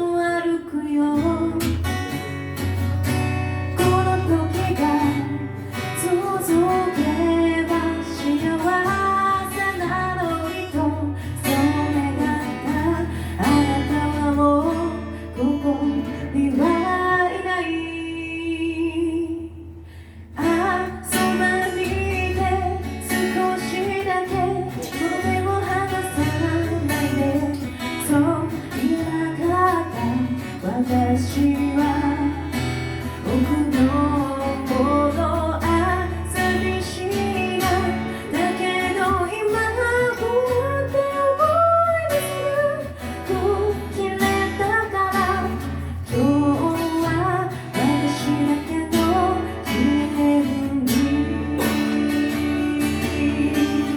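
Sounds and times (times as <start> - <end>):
acoustic guitar music: 0.0 - 53.9.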